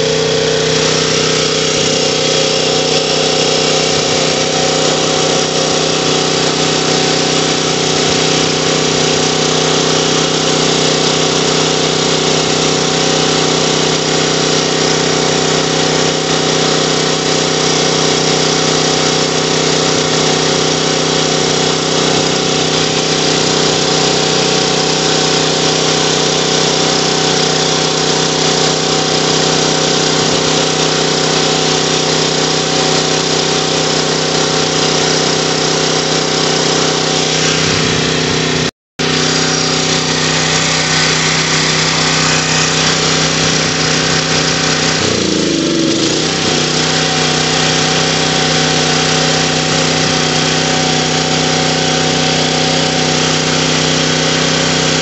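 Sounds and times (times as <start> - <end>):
generator engine running steadily: 0.0 - 55.0.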